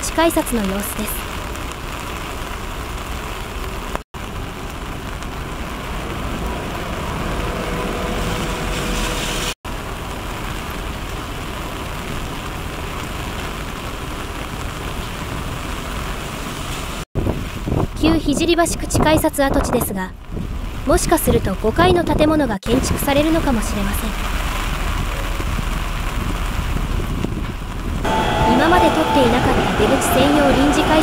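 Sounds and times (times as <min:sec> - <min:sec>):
rain: 0:00.0 - 0:31.0
wind: 0:00.0 - 0:31.0.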